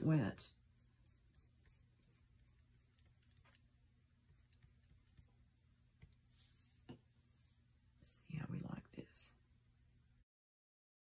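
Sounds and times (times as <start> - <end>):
faint steady hum: 0.2 - 10.2.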